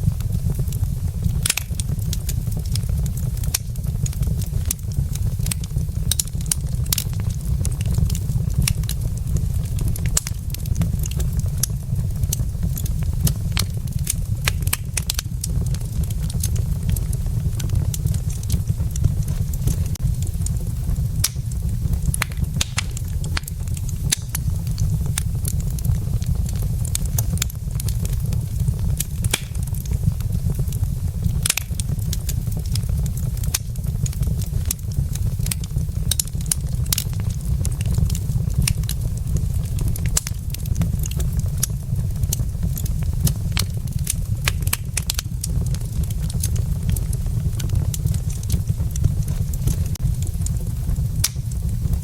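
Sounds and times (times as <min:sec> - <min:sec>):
fire low rumble: 0:00.0 - 0:52.0
logs crackling and popping: 0:00.0 - 0:52.0.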